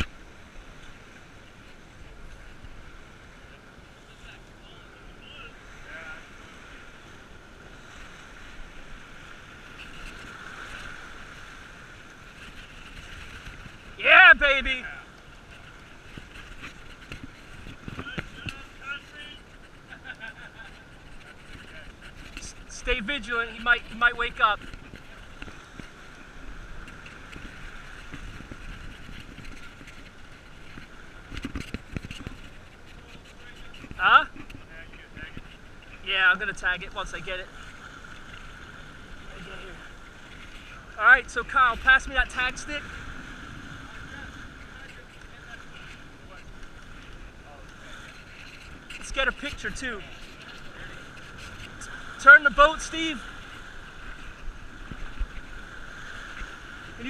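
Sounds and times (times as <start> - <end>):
water rushing along boat hull: 0.0 - 57.0
wind on microphone: 5.6 - 36.1, 37.3 - 57.0.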